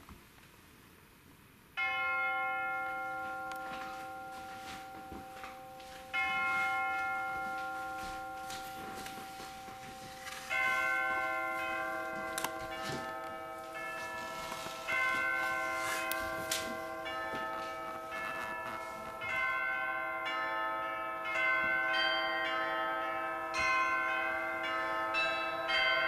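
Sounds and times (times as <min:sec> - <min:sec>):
bell-like chimes ringing: 0:01.8 - 0:26.0.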